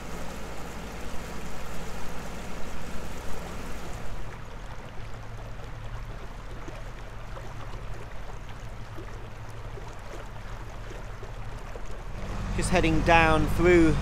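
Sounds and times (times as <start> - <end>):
boat engine humming: 0.0 - 14.0
water lapping along hull: 0.0 - 14.0.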